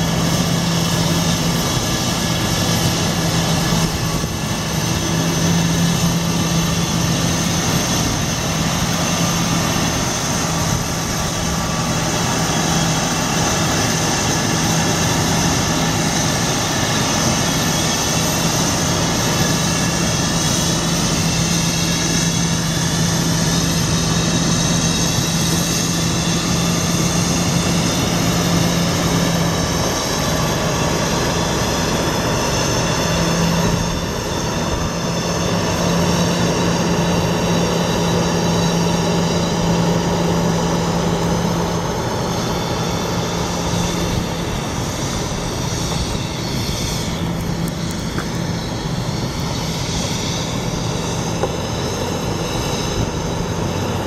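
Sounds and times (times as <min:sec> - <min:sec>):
diesel truck engine drone: 0:00.0 - 0:54.0.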